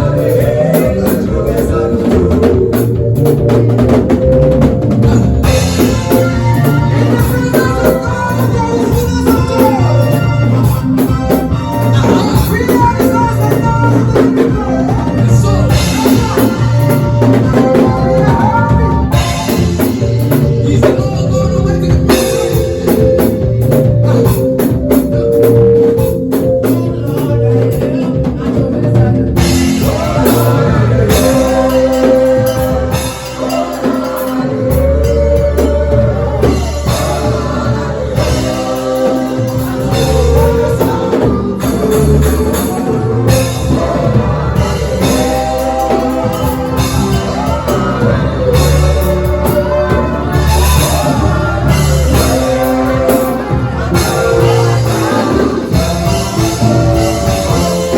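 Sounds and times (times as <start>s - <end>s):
singing: 0.0s - 4.1s, 5.0s - 57.9s
drum kit beat: 0.0s - 57.9s
live band playing: 0.0s - 57.9s.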